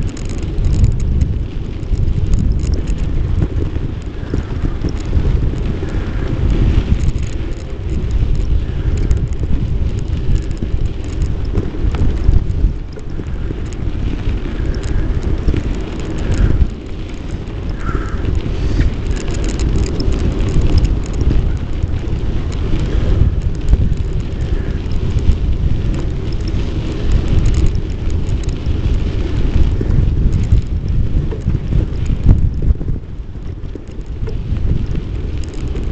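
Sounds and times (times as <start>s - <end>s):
bicycle rolling over path: 0.0s - 35.9s
light rattles: 0.0s - 35.9s
wind buffeting microphone: 0.0s - 35.9s.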